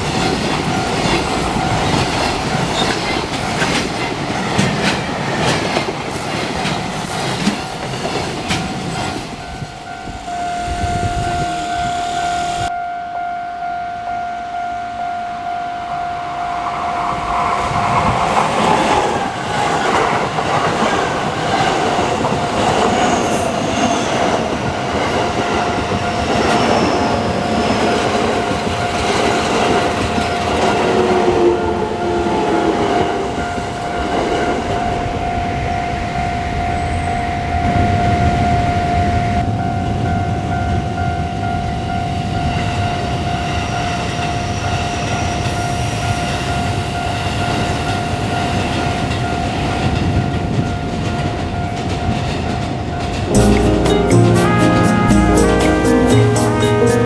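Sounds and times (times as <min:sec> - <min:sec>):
level-crossing warning bell: 0:00.0 - 0:57.0
train passing: 0:00.0 - 0:57.0.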